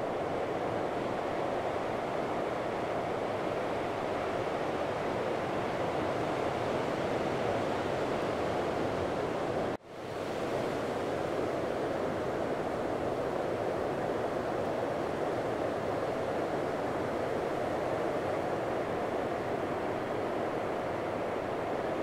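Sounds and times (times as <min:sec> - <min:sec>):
ocean surf breaking on beach: 0:00.0 - 0:22.0.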